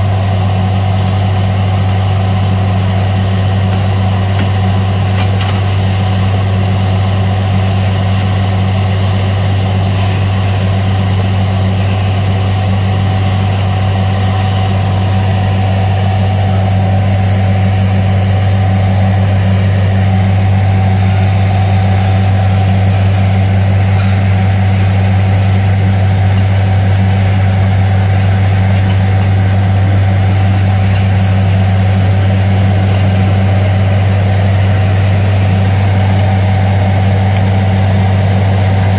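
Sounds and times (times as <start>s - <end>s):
drilling machine engine humming: 0.0s - 38.9s.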